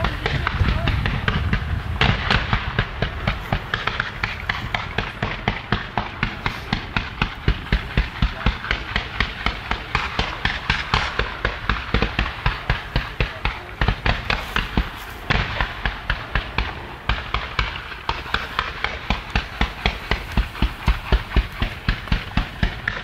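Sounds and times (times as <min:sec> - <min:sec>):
fireworks bangs: 0:00.0 - 0:23.0
fireworks hiss: 0:00.0 - 0:23.0.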